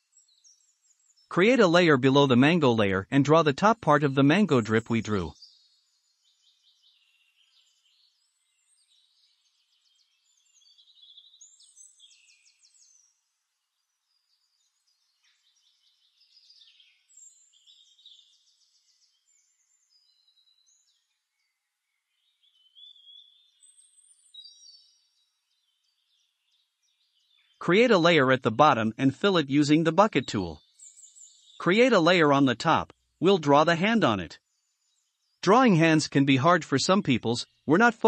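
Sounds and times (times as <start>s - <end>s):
faint birdsong: 0.0s - 38.0s.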